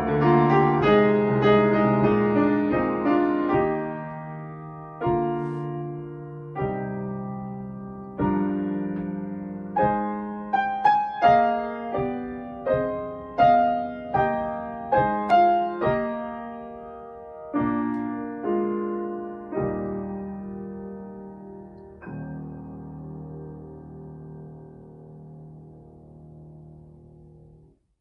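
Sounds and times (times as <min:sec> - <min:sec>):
solo piano melody: 0:00.0 - 0:28.0.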